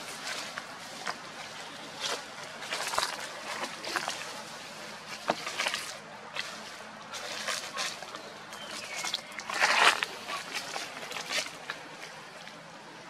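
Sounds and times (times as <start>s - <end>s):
dry leaves rustling and crackling: 0.0s - 12.6s.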